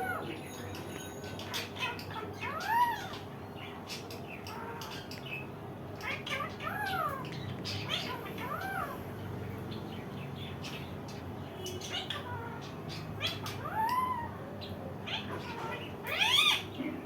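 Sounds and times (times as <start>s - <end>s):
parakeet calling: 0.0s - 17.0s.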